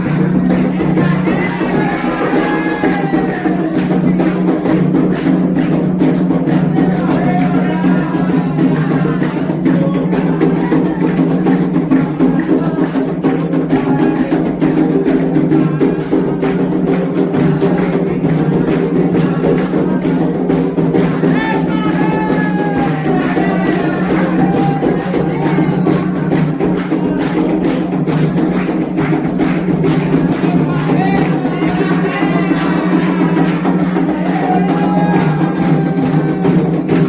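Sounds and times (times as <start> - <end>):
hand drums: 0.0 - 37.0
struck bell percussion: 0.0 - 37.0
voices singing: 0.0 - 37.0.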